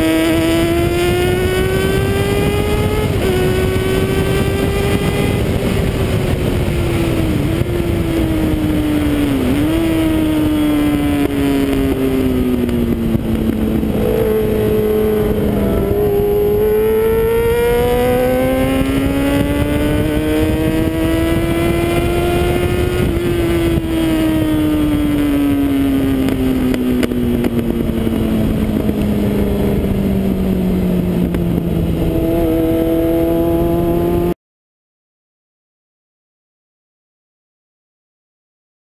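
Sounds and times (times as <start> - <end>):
motorcycle engine revving: 0.0 - 34.4
wind noise: 0.0 - 34.4.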